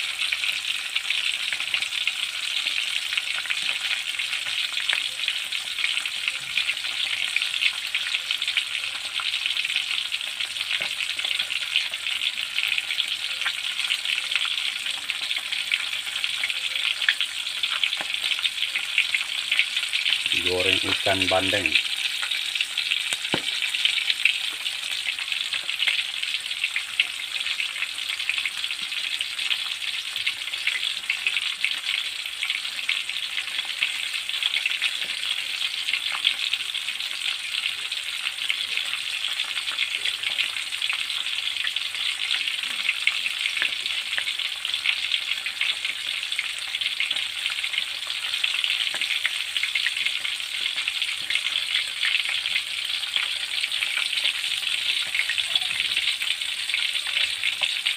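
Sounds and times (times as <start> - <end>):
fish frying in oil: 0.0 - 57.9.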